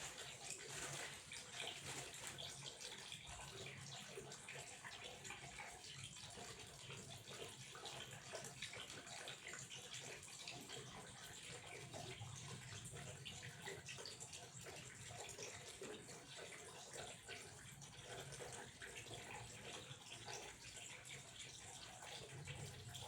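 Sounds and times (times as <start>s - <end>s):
water running faintly: 0.0s - 23.0s.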